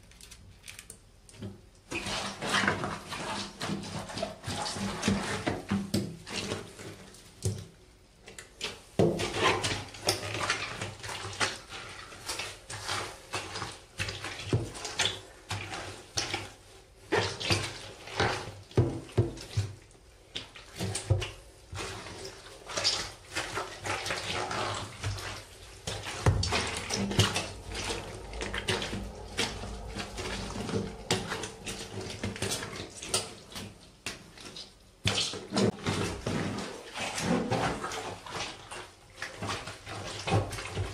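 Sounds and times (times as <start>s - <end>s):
rubber boots squelching food: 1.4s - 40.9s.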